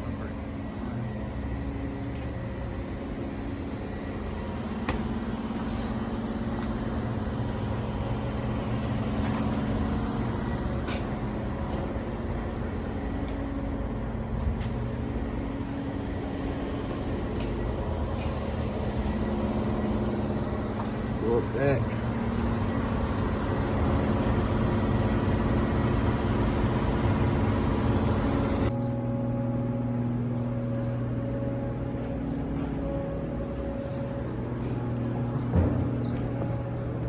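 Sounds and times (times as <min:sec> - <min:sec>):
car engine humming: 0:00.0 - 0:37.0.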